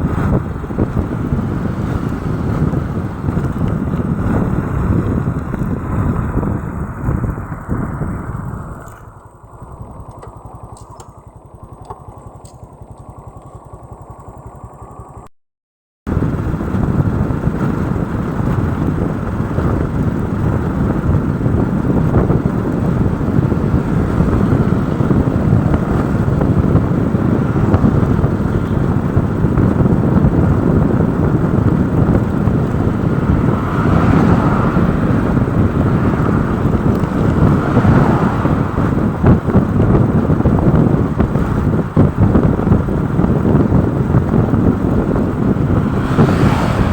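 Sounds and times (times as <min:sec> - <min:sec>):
wind on microphone: 0:00.0 - 0:13.1, 0:16.1 - 0:46.9
motorcycle engine running: 0:00.0 - 0:15.3, 0:16.1 - 0:46.9.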